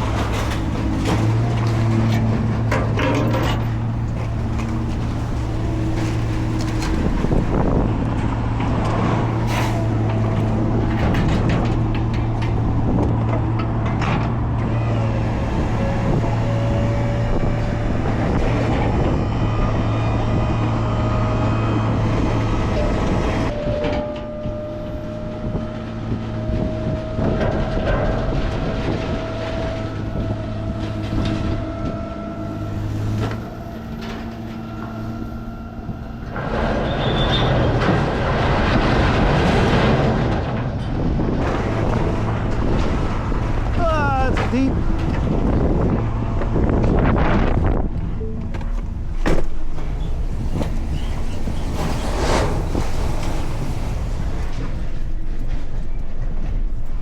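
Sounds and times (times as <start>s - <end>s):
road noise: 0.0s - 57.0s
vehicle engine hum: 0.0s - 57.0s.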